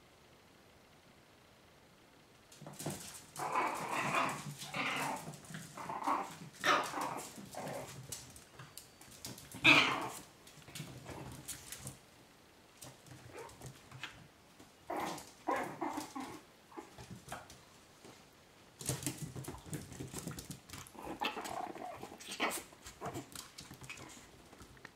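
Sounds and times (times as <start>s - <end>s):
puppies play-fighting: 2.6s - 12.0s, 12.8s - 17.6s, 18.8s - 24.9s.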